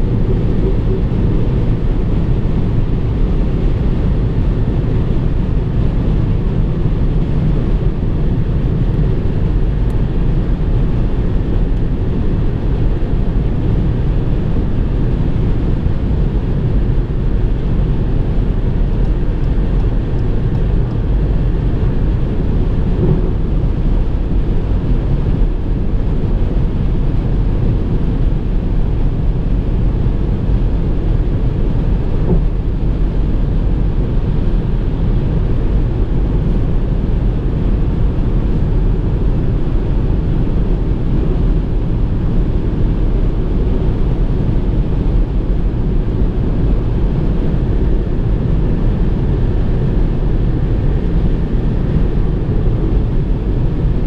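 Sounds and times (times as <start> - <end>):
car driving at speed: 0.0 - 54.0.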